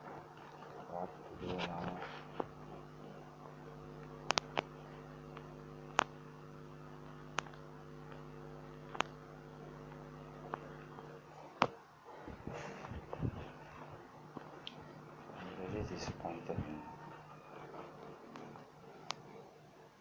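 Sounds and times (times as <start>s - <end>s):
low hum: 0.0s - 19.6s.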